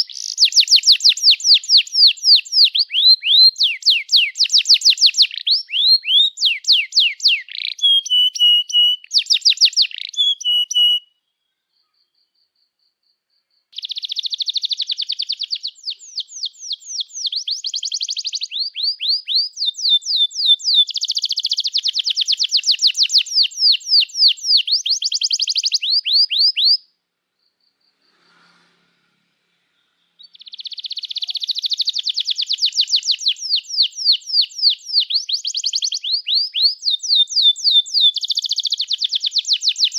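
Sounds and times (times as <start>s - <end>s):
canary singing chirps and trills: 0.0s - 27.8s, 29.9s - 39.9s.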